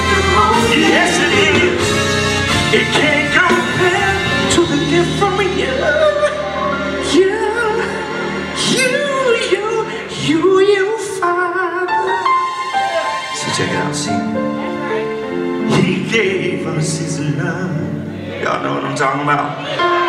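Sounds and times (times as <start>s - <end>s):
man singing: 0.0s - 12.4s, 13.2s - 20.0s
live band playing: 0.0s - 20.0s.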